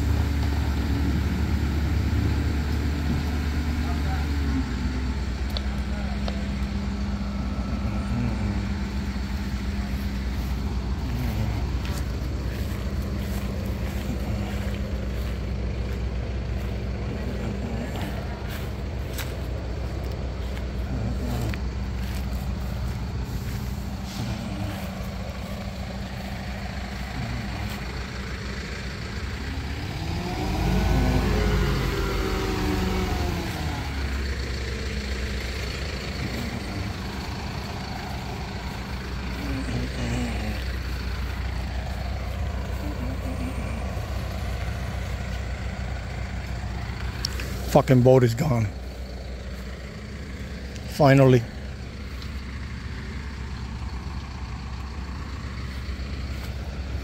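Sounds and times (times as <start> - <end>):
diesel engine running and revving: 0.0 - 57.0.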